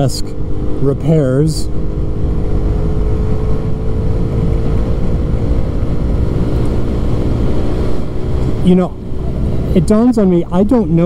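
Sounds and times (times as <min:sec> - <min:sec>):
scooter engine droning: 0:00.0 - 0:11.0.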